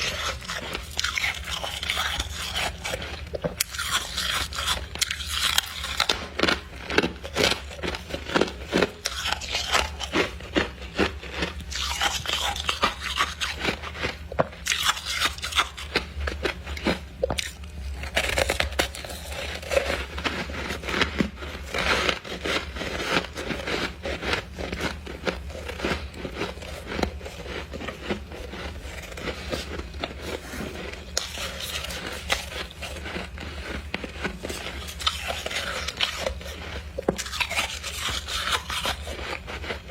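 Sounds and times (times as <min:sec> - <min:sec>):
frost being chewed and crunched: 0:00.0 - 0:39.9.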